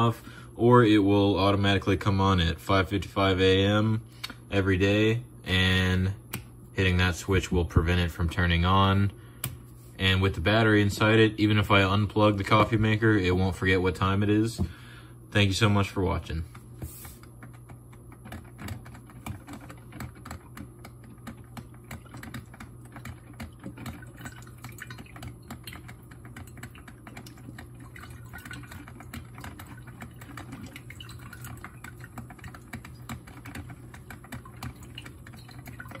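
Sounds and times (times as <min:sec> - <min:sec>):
coffee maker low hum: 0:00.0 - 0:36.0.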